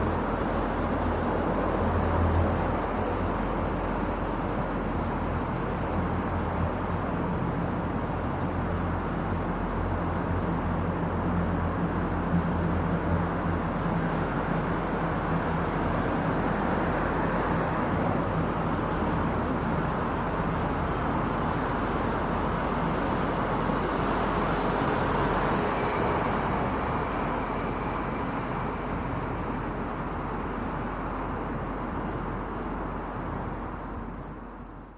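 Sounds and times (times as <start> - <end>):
low engine hum: 0.0 - 34.9
road and wind noise: 0.0 - 34.9.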